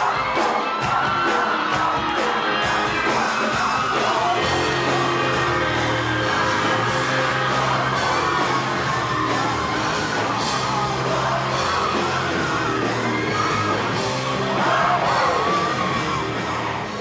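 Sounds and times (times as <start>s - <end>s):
live rock band playing: 0.0s - 17.0s
people yelling: 0.0s - 17.0s.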